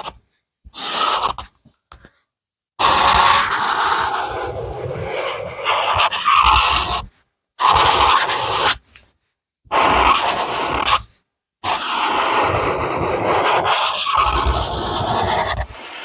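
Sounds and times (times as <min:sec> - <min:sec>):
drawing tool scratching on paper: 0:00.0 - 0:01.8, 0:02.8 - 0:09.1, 0:09.7 - 0:16.0.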